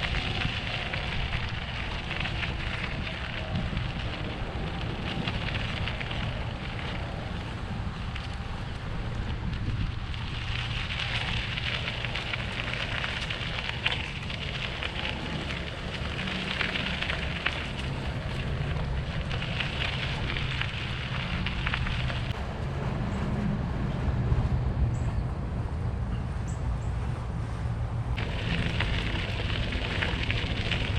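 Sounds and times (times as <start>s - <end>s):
wind rumbling on microphone: 0.0s - 30.9s.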